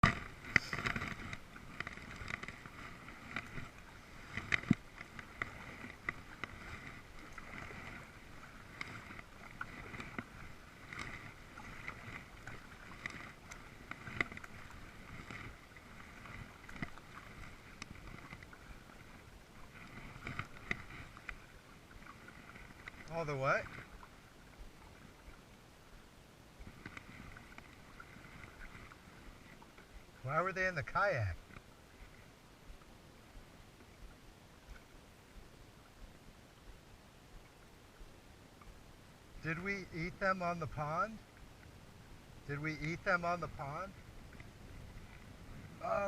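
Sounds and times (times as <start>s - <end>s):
light water wash: 0.0s - 46.0s
paddle splashing in water: 0.0s - 46.0s.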